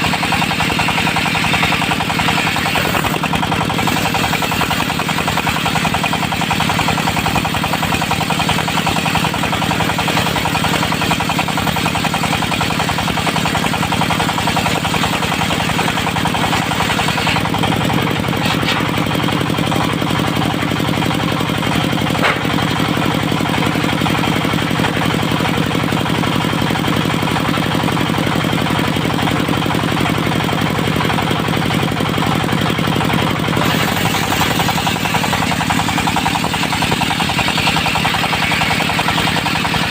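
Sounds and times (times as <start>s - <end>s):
sawmill diesel engine knocking: 0.0s - 39.9s.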